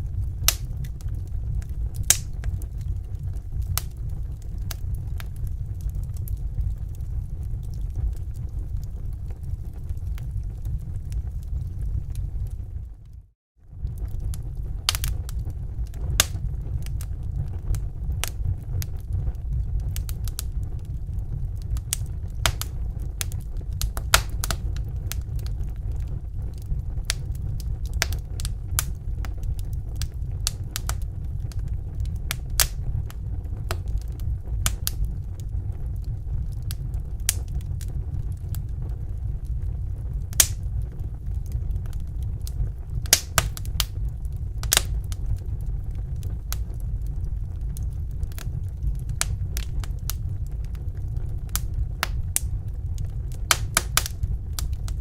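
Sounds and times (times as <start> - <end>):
low rumble: 0.0 - 55.0
wood fire crackling: 0.0 - 55.0.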